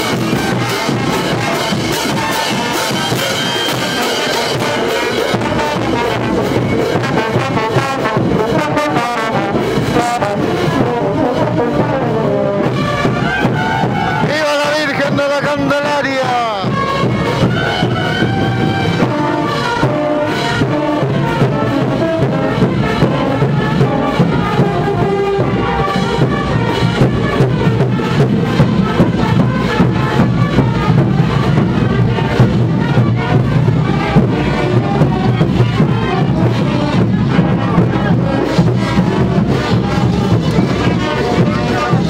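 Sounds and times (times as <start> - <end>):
crowd noise: 0.0 - 42.0
procession band music: 0.0 - 42.0.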